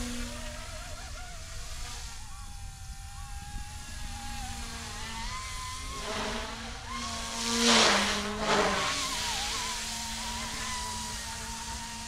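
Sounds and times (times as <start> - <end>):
rc helicopter rotor whine: 0.0 - 12.0.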